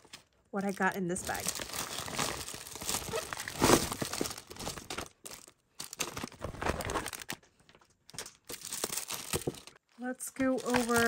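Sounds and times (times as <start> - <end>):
bag crinkling and rustling: 0.0 - 9.8, 10.4 - 11.0.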